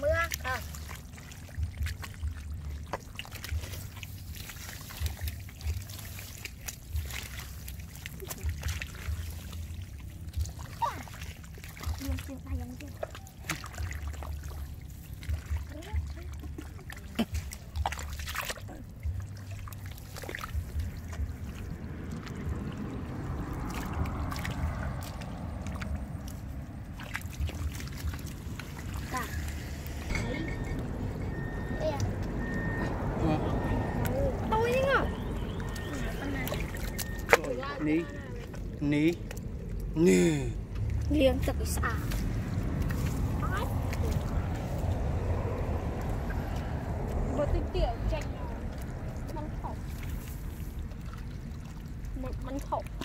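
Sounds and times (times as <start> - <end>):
low steady rumble: 0.0 - 53.0
mud and water squelching: 0.0 - 53.0.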